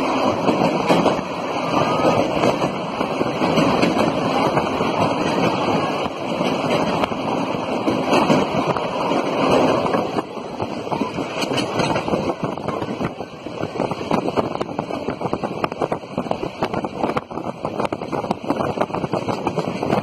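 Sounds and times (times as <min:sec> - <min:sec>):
train wheels rattling on rails: 0:00.0 - 0:20.0
wind rushing over microphone: 0:00.0 - 0:20.0.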